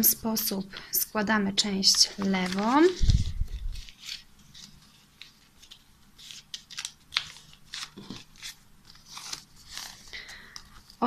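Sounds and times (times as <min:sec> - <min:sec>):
paper rustling and crinkling: 0:01.6 - 0:11.0.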